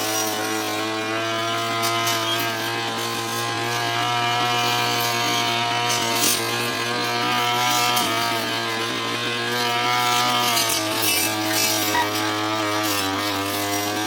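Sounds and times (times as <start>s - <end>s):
brush cutter cutting grass: 0.0s - 14.0s.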